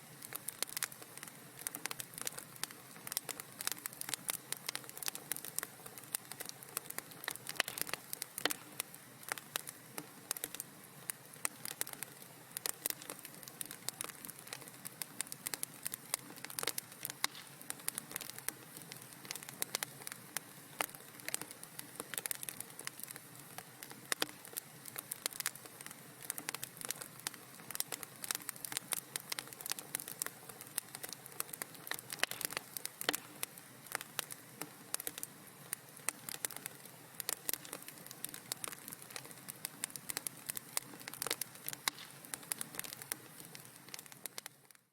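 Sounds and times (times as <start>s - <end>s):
fire crackling and popping: 0.0s - 44.9s
soft steady hiss: 0.0s - 44.9s.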